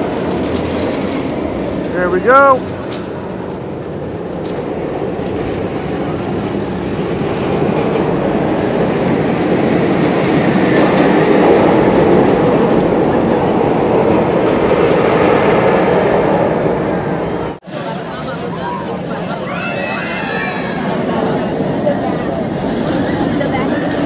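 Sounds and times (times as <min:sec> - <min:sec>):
roller coaster train rumbling: 0:00.0 - 0:24.0.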